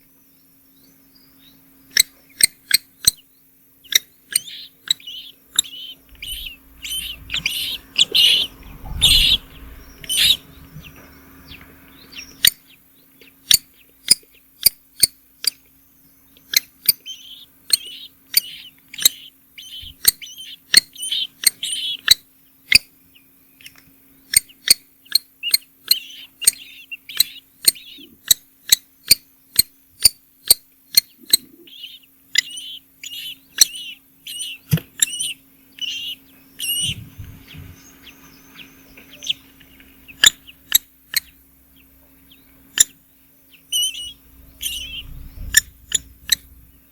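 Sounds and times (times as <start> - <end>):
baby birds chirping: 0.0 - 46.9
faint low hum: 0.0 - 46.9.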